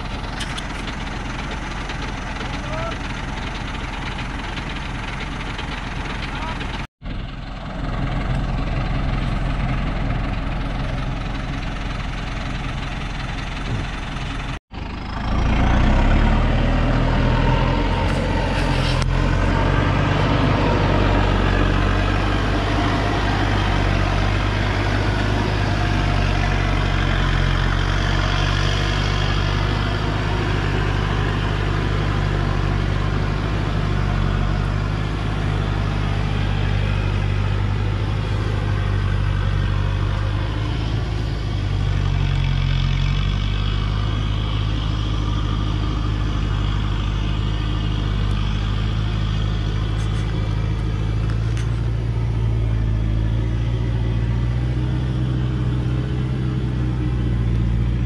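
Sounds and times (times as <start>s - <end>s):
truck diesel engine labouring: 0.0s - 58.0s.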